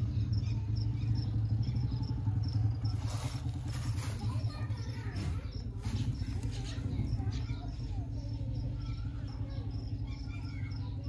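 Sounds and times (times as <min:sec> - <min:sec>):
crickets chirping: 0:00.0 - 0:11.0
engine idling: 0:00.0 - 0:11.0.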